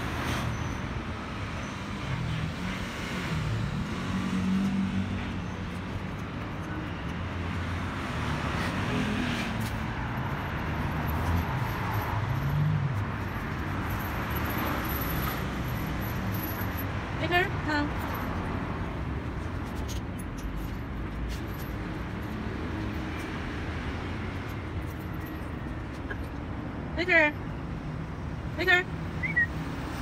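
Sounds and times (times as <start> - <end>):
road traffic passing cars: 0.0 - 30.0.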